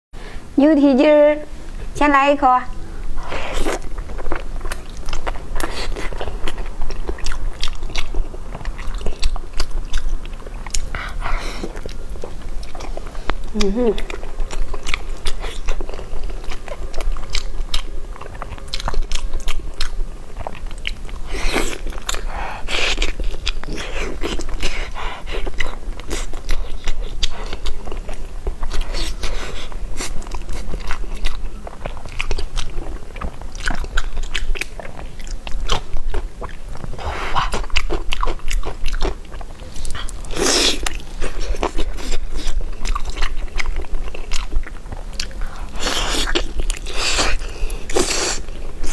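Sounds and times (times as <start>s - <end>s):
chewing with mouth clicks: 3.2s - 48.9s.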